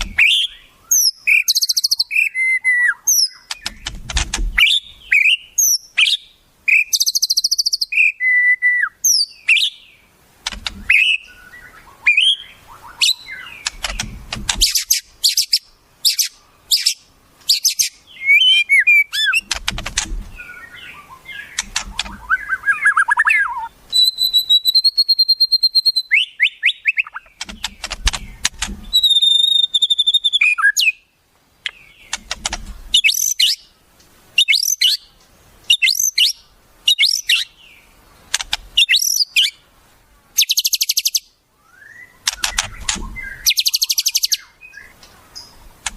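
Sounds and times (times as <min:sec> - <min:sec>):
songbird whistles and trills: 0:00.0 - 0:10.1, 0:10.7 - 0:19.6, 0:20.3 - 0:33.7, 0:34.4 - 0:37.6, 0:38.7 - 0:39.6, 0:40.4 - 0:45.6.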